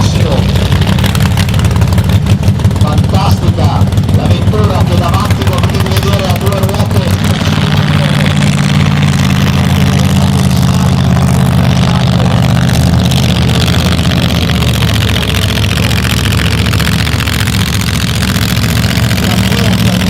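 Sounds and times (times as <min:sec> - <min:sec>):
drag car engine rumbling: 0:00.0 - 0:20.0.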